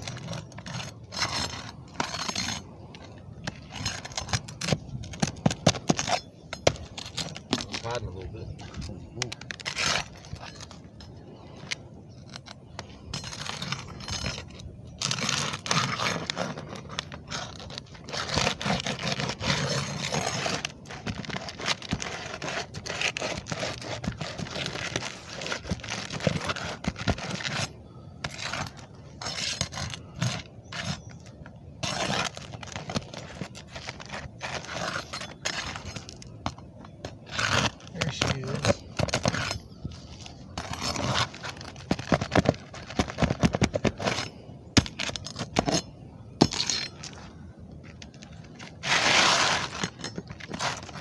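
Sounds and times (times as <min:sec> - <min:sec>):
material scraping and crackling: 0:00.0 - 0:51.0.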